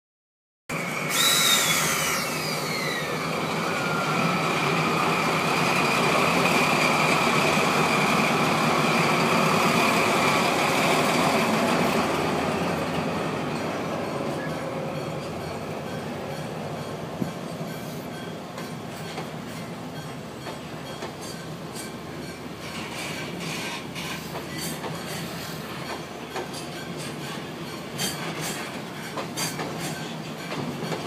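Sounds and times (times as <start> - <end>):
diesel locomotive passing: 0.7 - 31.0
wagons running over rails: 0.7 - 31.0.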